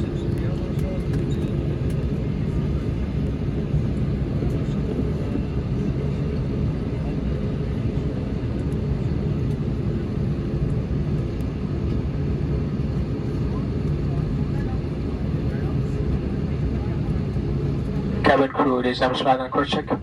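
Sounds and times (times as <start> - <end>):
aircraft engines idling: 0.0 - 20.0
constant low hum: 0.0 - 20.0.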